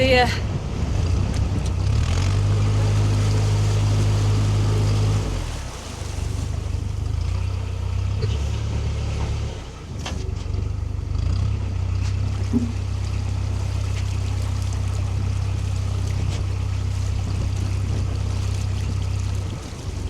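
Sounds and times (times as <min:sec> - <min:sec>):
boat diesel engine running: 0:00.0 - 0:20.0.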